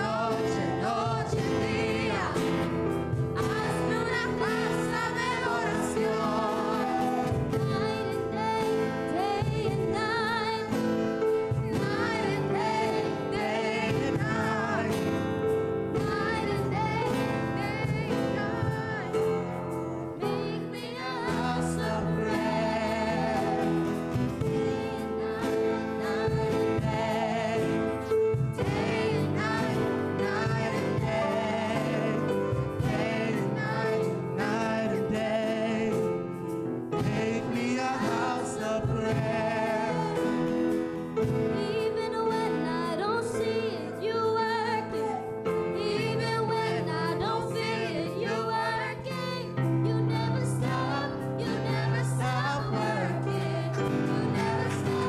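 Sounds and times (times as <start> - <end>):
gospel worship singing: 0.0 - 55.0.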